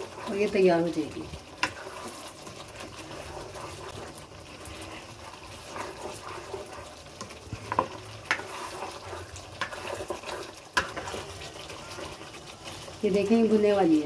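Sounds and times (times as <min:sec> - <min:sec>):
sauce bubbling and frying: 0:00.0 - 0:14.0
spatula scraping a pan: 0:00.0 - 0:14.0.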